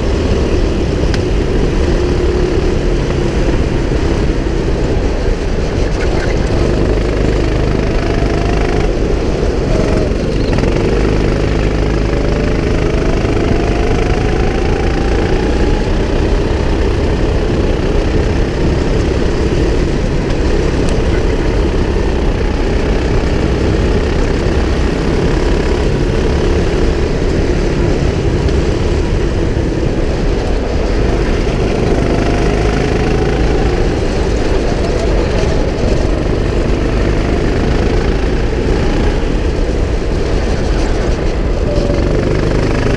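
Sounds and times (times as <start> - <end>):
go-kart engine running: 0.0 - 42.9.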